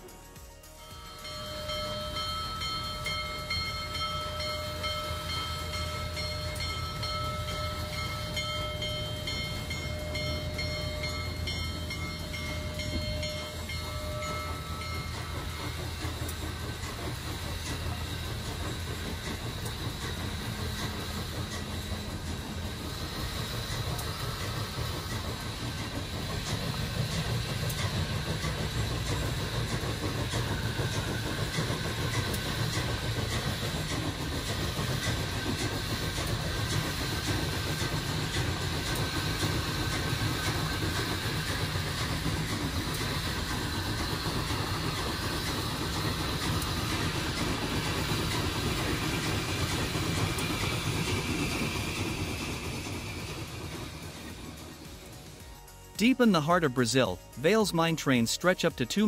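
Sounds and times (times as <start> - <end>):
steam locomotive rumbling past: 0.0 - 58.9.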